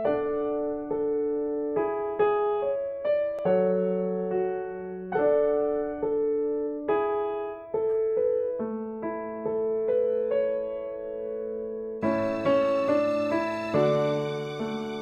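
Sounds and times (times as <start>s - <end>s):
gentle electric piano chords: 0.0s - 15.0s.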